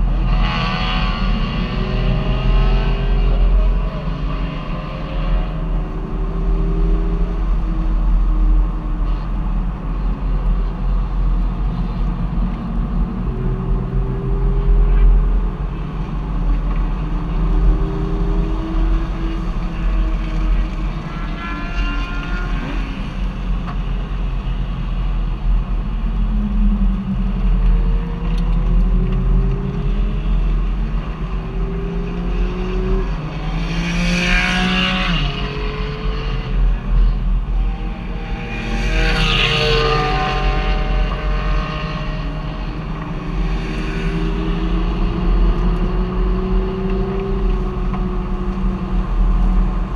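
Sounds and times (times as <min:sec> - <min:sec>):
road rumble: 0:00.0 - 0:49.9.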